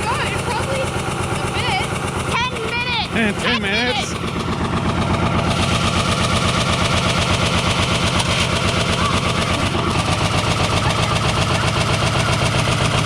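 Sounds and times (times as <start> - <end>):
washing machine motor running: 0.0 - 13.0.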